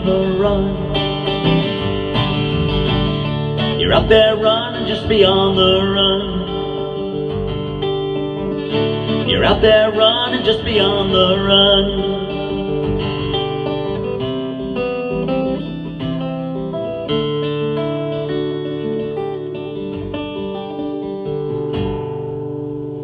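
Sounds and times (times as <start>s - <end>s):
guitar playing country music: 0.0s - 23.0s.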